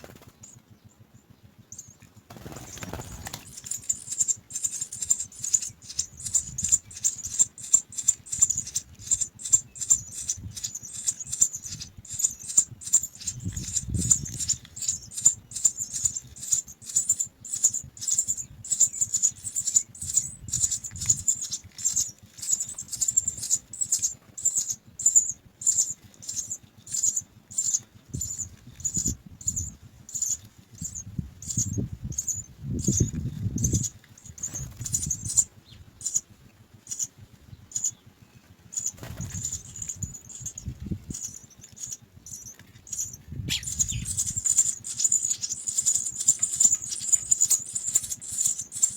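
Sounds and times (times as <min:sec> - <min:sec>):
nestlings begging cheeps: 0:00.0 - 0:48.9.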